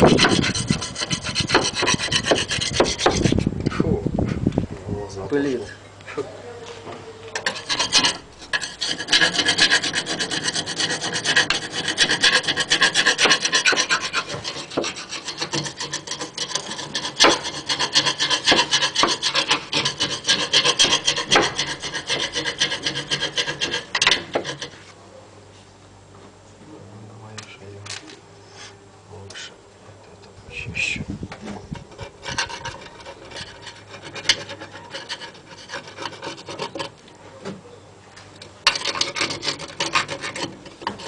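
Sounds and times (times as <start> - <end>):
metal scraping back and forth: 0.0 - 3.9, 7.3 - 25.0, 27.4 - 37.1, 38.3 - 41.0.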